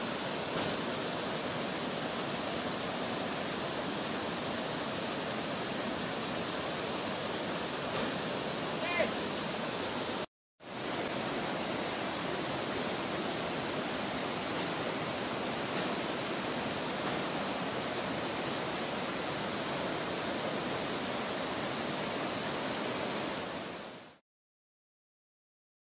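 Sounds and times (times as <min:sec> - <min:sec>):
river and waterfall rushing: 0:00.0 - 0:24.2.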